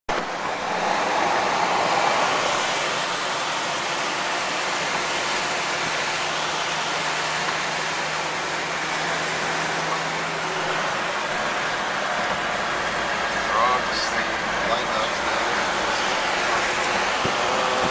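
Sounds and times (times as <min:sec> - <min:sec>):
road and wind noise inside car: 0:00.1 - 0:17.9.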